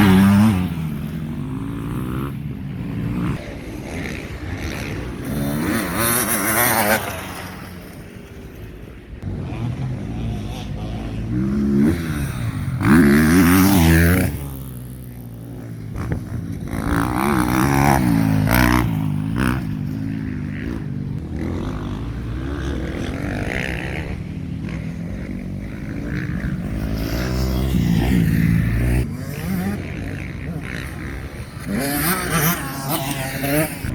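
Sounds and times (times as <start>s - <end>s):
motocross bikes revving past: 0.0s - 33.9s.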